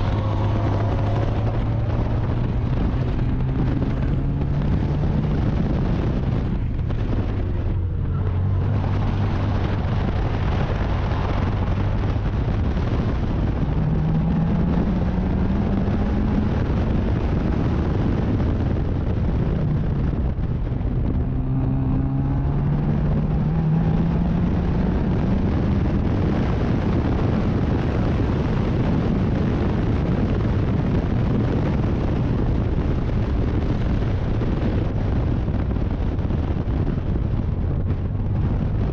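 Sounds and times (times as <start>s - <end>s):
race car engine revving: 0.0s - 35.2s
wind noise on microphone: 0.0s - 38.9s.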